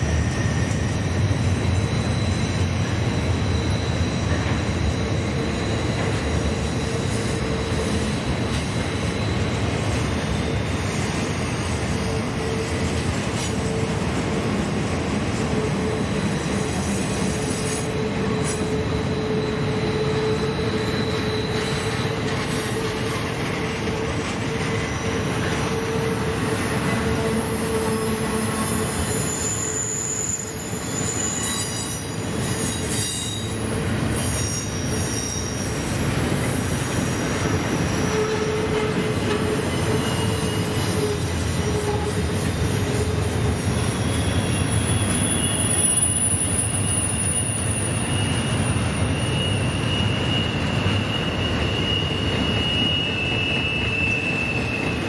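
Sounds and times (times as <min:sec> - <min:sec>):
freight train cars rumbling: 0:00.0 - 0:55.0
wheel flanges squealing on rails: 0:00.0 - 0:55.0.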